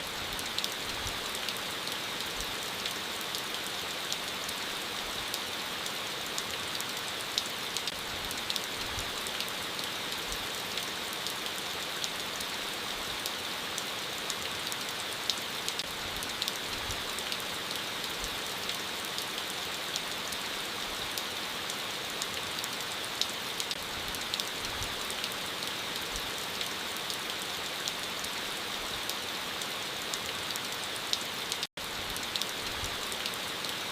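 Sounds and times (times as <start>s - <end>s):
gentle rain: 0.0s - 33.9s.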